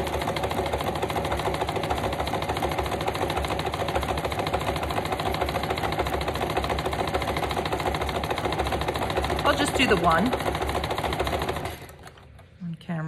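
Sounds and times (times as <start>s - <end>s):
electric sewing machine stitching: 0.0s - 12.5s.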